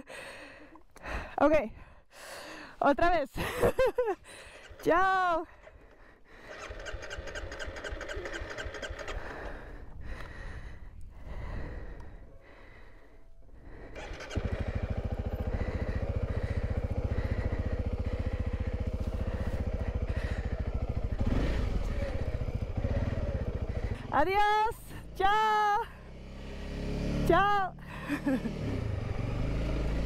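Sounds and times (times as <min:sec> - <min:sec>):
motorcycle engine running: 0:04.4 - 0:30.0.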